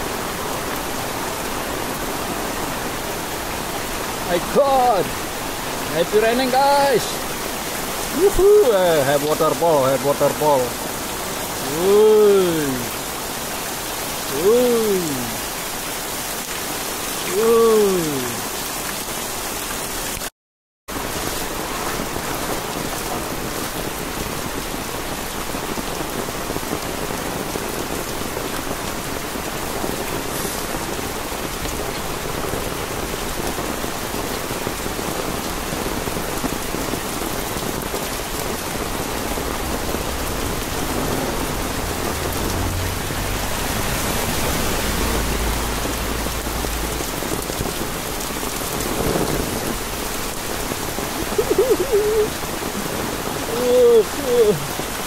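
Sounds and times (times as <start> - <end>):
heavy rain on pavement: 0.0 - 20.3, 20.9 - 55.0.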